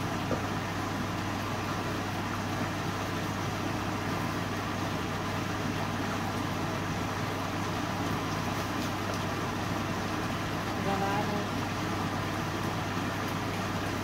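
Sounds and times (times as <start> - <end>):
background hum and hiss: 0.0 - 14.0.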